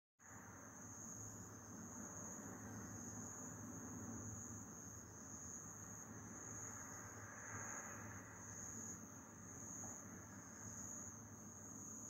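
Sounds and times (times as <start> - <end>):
crickets trilling: 0.2 - 12.0.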